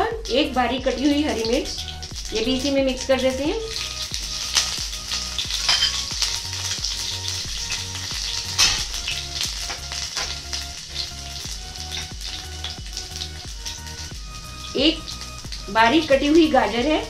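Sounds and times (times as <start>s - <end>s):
spices sizzling in hot oil: 0.0s - 17.0s
seeds popping and crackling: 1.3s - 16.6s.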